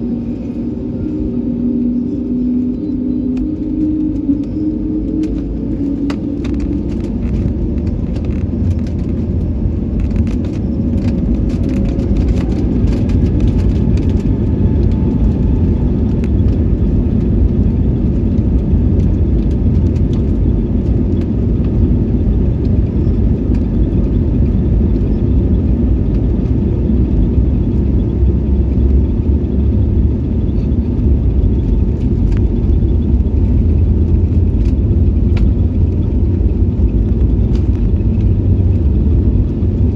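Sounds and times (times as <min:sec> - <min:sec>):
airliner engines in cabin: 0:00.0 - 0:39.9.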